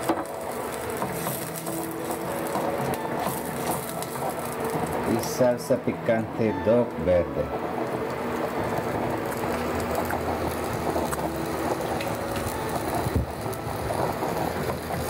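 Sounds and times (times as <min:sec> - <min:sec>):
sauce simmering in a skillet: 0:00.0 - 0:06.2, 0:07.5 - 0:15.0.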